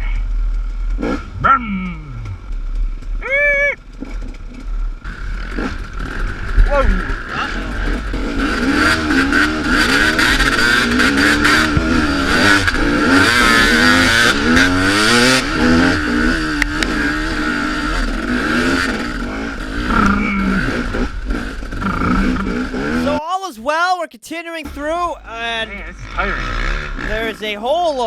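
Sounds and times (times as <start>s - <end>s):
dirt bike engine revving: 0.6s - 3.2s, 3.8s - 23.2s, 24.6s - 28.0s.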